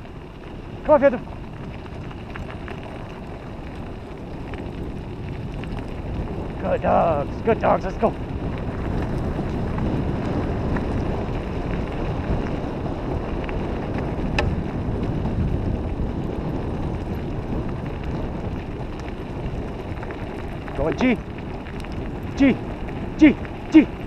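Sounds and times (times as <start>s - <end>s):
tyres rolling on gravel: 0.0s - 24.0s
wind on microphone: 0.0s - 24.0s.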